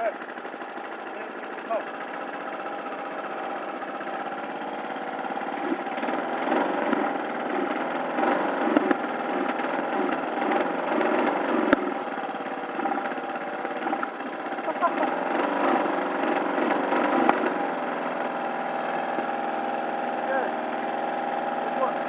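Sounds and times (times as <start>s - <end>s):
lawn mower engine surging: 0.0s - 22.0s.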